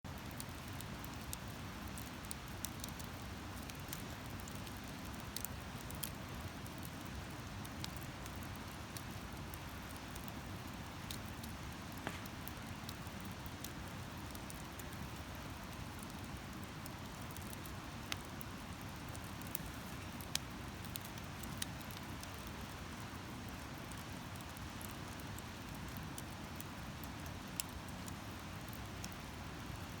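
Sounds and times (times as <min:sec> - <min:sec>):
campfire crackling and hissing: 0:00.1 - 0:30.0.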